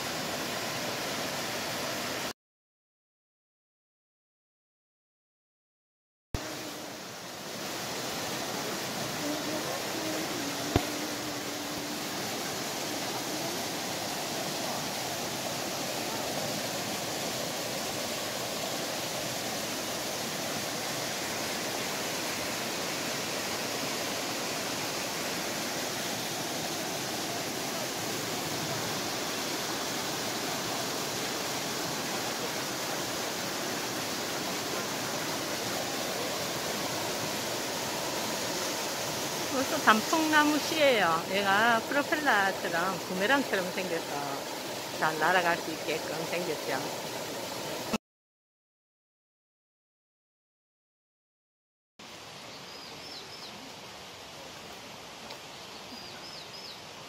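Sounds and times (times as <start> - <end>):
stream rushing over rocks: 0.0 - 2.3, 6.4 - 48.0, 52.0 - 57.0.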